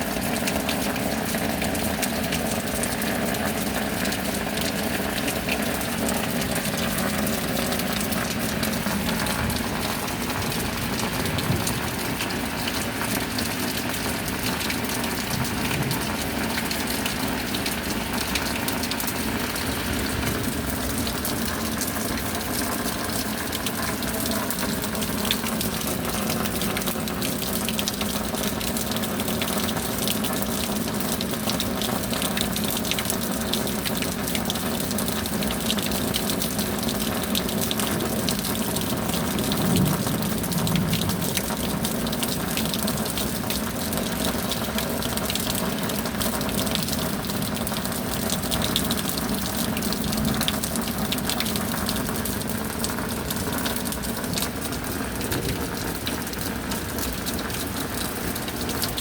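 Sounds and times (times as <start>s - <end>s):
steady rain: 0.0s - 59.0s
water gushing and pouring: 0.0s - 59.0s.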